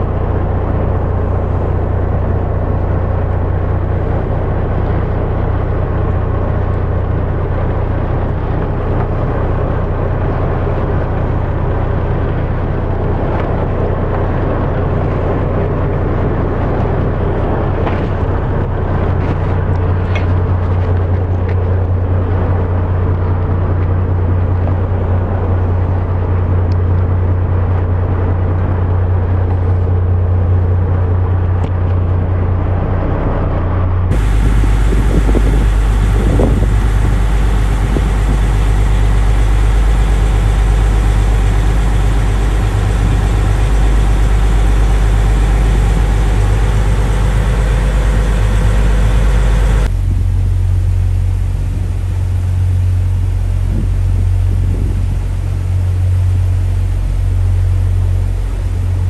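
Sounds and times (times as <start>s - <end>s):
boat engines humming: 0.0s - 59.0s
boat underway rumble: 0.0s - 59.0s
water rushing noise: 0.0s - 59.0s.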